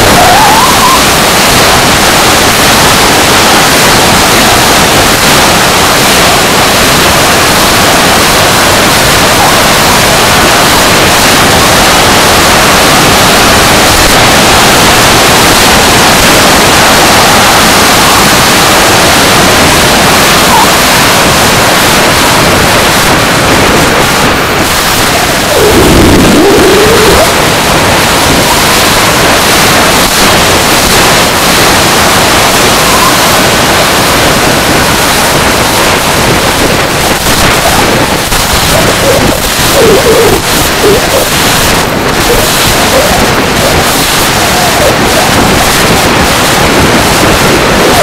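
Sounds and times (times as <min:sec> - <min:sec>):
airflow over microphone: 0:00.0 - 0:48.0
model jet engine roar: 0:00.0 - 0:48.0.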